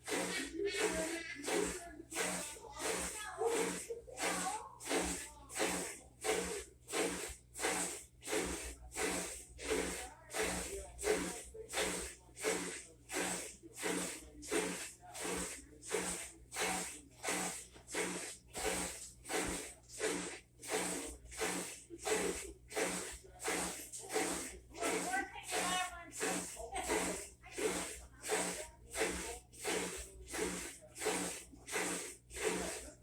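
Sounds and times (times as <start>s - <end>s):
washer motor hum: 0.0s - 33.0s
washer water swishing: 0.0s - 33.0s.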